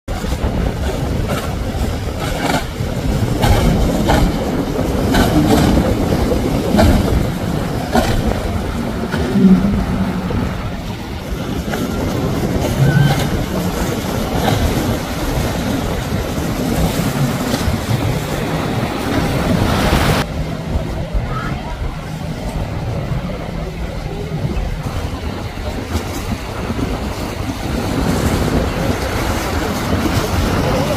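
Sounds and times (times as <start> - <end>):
rushing water and wind: 0.0 - 30.9
speedboat engine drone: 0.1 - 30.9.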